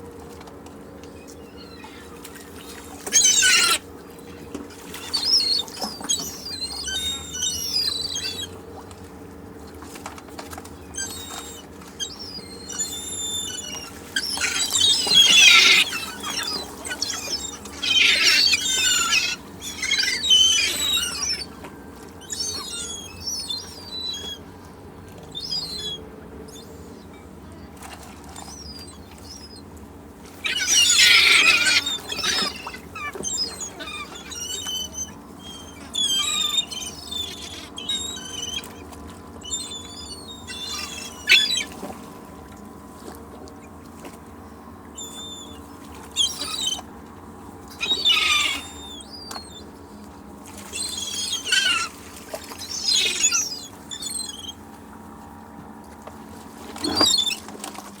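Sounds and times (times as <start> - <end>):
seagulls calling: 0.8 - 9.5, 10.2 - 55.7, 56.7 - 57.8.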